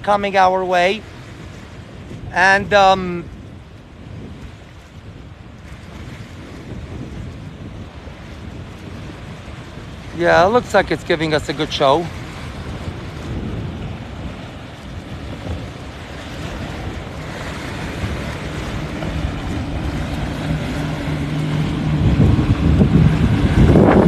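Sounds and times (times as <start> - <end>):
motorboat engine humming: 0.0 - 24.0
wind buffeting microphone: 0.0 - 24.0.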